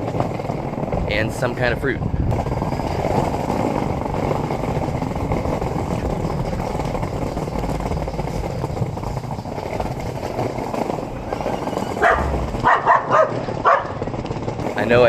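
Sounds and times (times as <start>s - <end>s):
skateboard wheels rolling: 0.0s - 15.0s.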